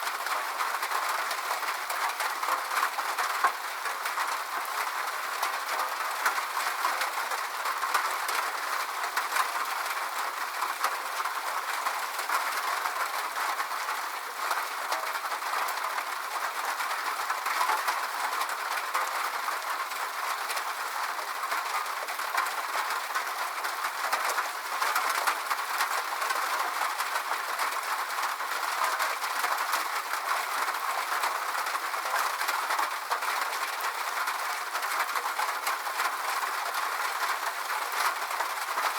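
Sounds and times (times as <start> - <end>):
rain drumming on a metal roof: 0.0 - 38.9.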